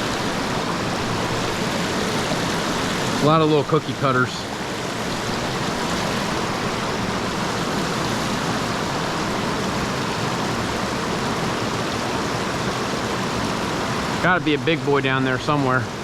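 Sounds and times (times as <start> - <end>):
flowing stream water: 0.0 - 16.0.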